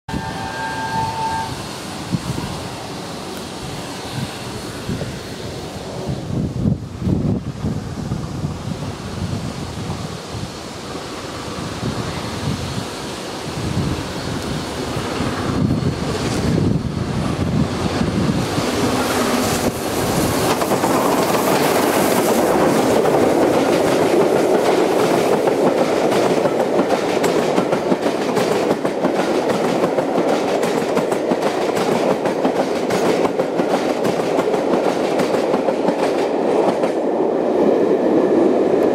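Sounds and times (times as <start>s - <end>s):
steam train passing: 0.1s - 38.9s
train coaches rolling: 0.1s - 38.9s.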